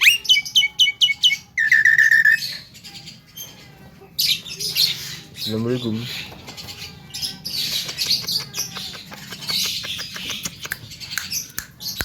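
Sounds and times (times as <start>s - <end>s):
bird scratchy song: 0.0s - 12.0s.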